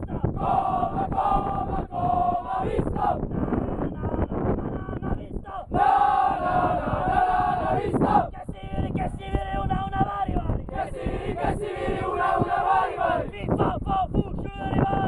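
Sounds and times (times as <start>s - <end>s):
men chanting in unison: 0.0s - 4.2s, 5.0s - 9.4s, 10.3s - 14.2s.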